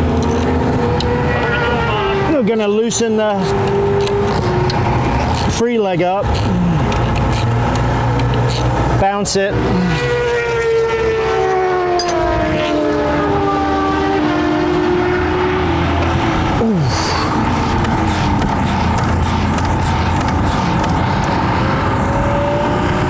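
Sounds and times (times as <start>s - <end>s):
race vehicles passing by: 0.0s - 23.0s.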